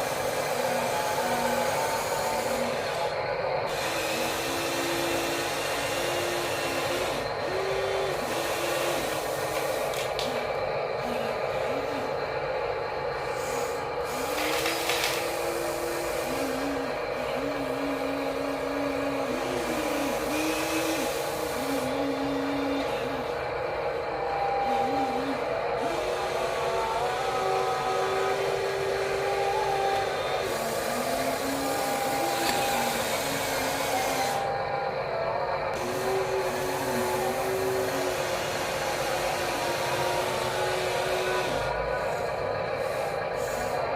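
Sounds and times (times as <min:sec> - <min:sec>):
small electric motors whirring: 0:00.0 - 0:34.7, 0:35.7 - 0:43.9.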